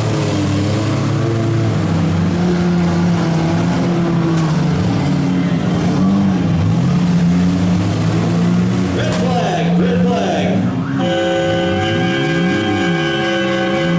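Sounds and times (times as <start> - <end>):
engines revving: 0.0 - 13.9.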